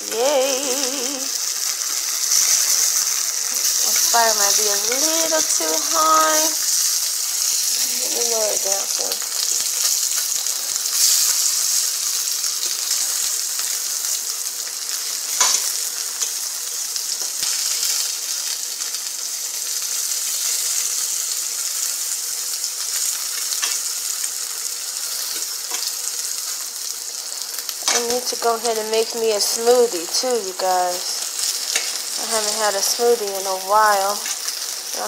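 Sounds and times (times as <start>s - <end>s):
meat sizzling in a frying pan: 0.0s - 35.0s.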